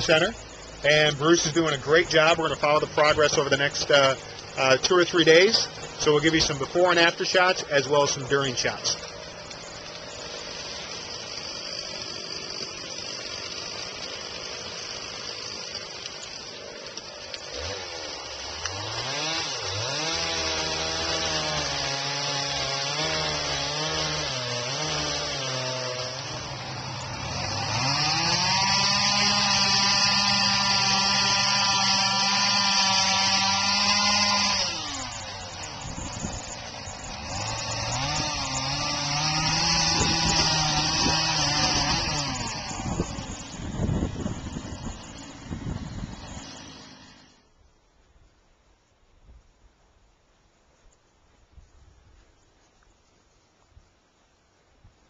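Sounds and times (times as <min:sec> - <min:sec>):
chainsaw cutting wood: 0:00.0 - 0:47.5.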